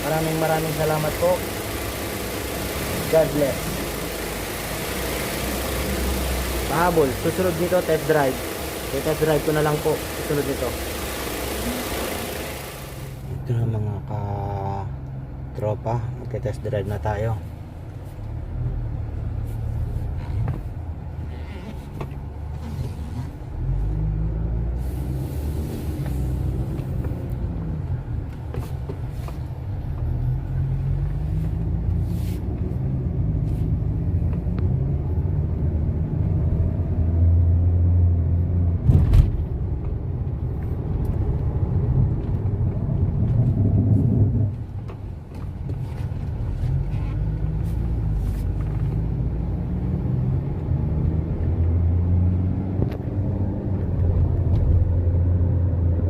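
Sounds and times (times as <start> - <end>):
car engine accelerating: 0.0 - 13.4, 20.2 - 56.0.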